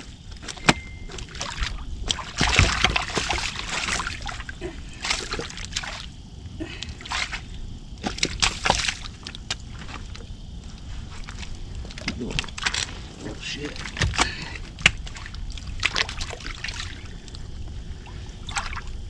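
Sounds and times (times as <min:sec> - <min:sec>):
river water splashing: 0:00.0 - 0:06.2, 0:06.9 - 0:19.0.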